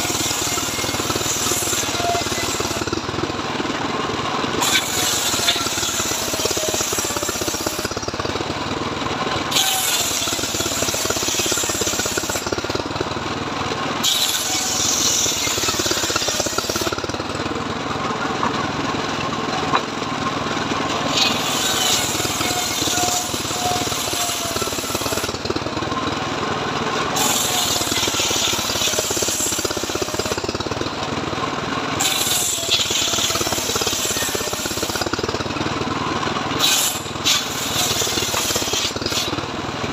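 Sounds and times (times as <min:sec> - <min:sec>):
saw blade cutting wood: 0:00.0 - 0:03.1, 0:04.4 - 0:08.6, 0:09.2 - 0:13.1, 0:13.9 - 0:17.6, 0:19.2 - 0:26.1, 0:27.0 - 0:30.9, 0:32.0 - 0:35.5, 0:36.5 - 0:39.5
engine running steadily: 0:00.0 - 0:39.9.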